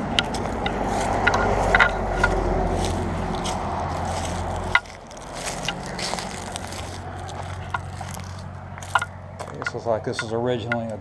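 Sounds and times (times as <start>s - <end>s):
footsteps crunching on debris: 0.0s - 9.8s
highway traffic rumble: 0.0s - 11.0s.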